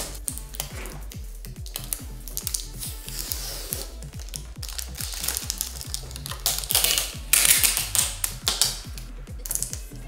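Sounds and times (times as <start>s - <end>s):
music with fast beat: 0.0s - 10.0s
plastic film peeling and crackling: 1.6s - 9.8s.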